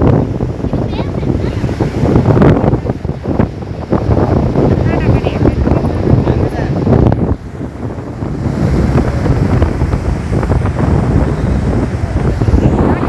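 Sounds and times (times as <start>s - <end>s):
sea waves breaking: 0.0s - 13.0s
wind buffeting microphone: 0.0s - 13.0s.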